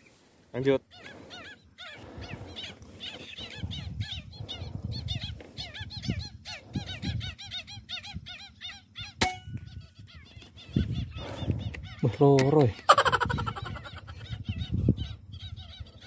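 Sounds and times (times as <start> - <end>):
ducks whistling calls: 0.8 - 16.0
wind rumble on microphone: 2.0 - 8.4, 9.0 - 16.0.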